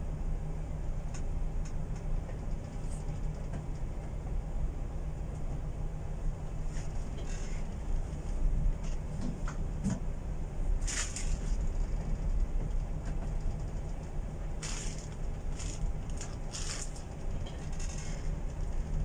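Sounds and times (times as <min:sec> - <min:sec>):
ship low rumble: 0:00.0 - 0:19.0.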